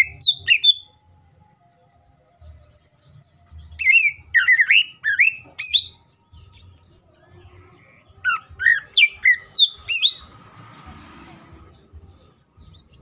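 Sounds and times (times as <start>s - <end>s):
bird singing whistled notes: 0.0s - 10.4s.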